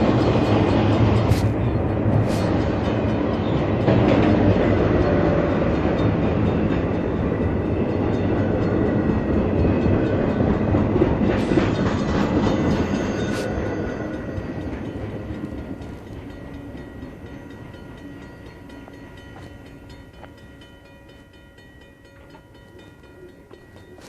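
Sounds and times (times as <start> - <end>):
train wheels clattering over rails: 0.0 - 21.4.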